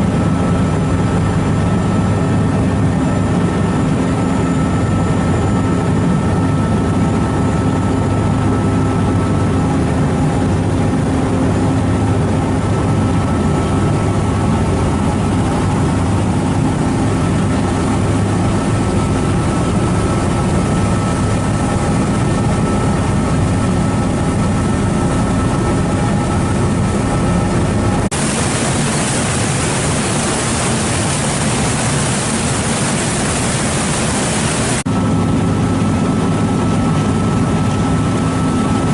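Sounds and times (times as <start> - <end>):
faint high whine: 0.0 - 34.8.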